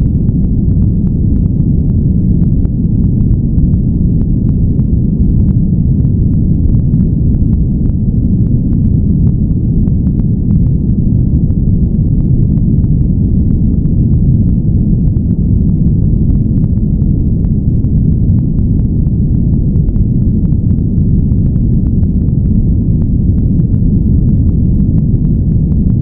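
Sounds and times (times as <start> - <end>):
deep rushing noise: 0.0 - 26.0.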